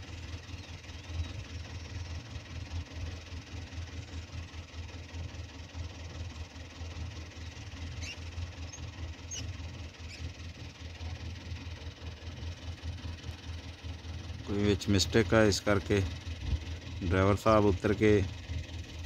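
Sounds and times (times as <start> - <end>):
distant tractor engine rumbling: 0.0 - 19.0.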